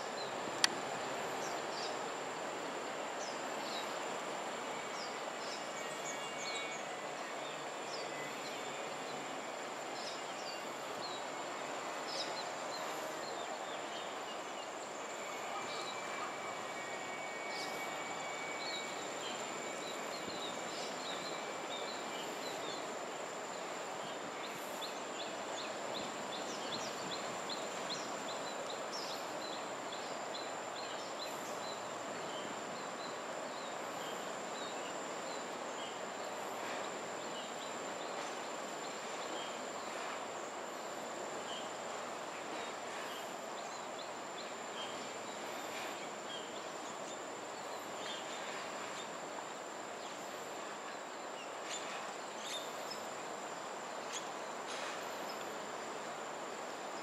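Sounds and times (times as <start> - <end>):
background noise: 0.0 - 57.0
high insect whine: 0.0 - 57.0.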